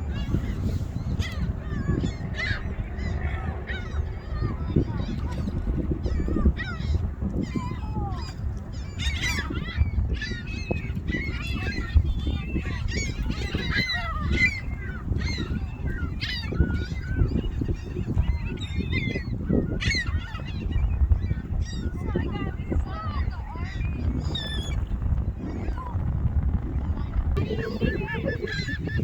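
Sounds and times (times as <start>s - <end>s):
gulls calling: 0.0s - 29.0s.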